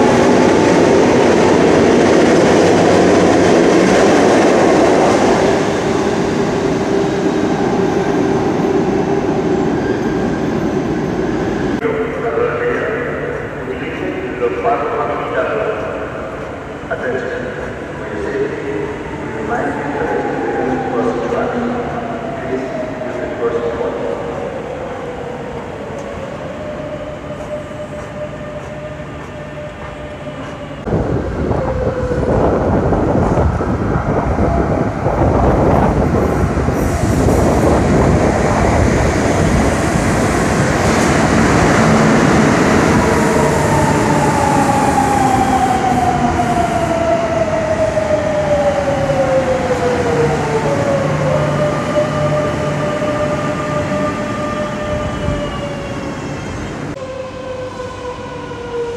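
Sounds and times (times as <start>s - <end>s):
train rumbling into platform: 0.0s - 58.9s.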